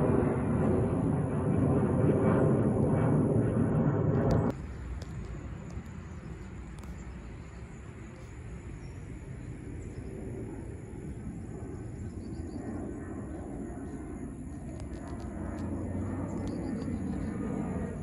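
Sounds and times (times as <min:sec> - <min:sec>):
airliner engines rumbling: 0:00.0 - 0:18.0.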